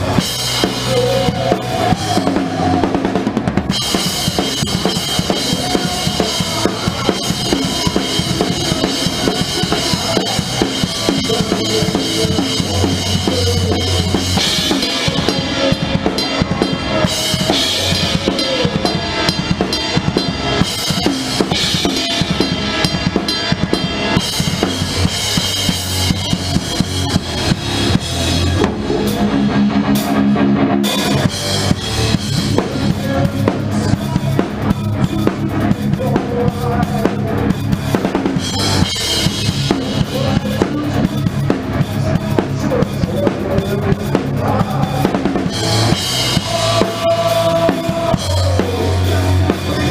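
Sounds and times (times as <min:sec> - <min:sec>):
bass and guitar notes: 0:00.0 - 0:49.9
rock drum kit beat: 0:00.0 - 0:49.9.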